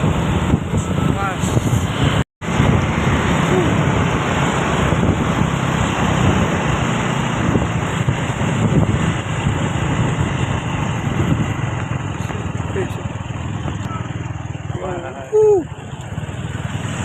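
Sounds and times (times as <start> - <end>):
wind buffeting microphone: 0.0 - 14.6
truck engine running: 0.0 - 17.0
tyres humming on road: 0.0 - 17.0.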